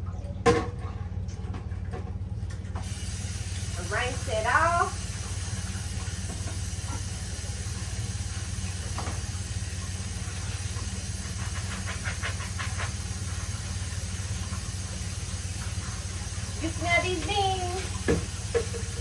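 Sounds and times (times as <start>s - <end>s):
water running from a tap: 2.6s - 19.0s.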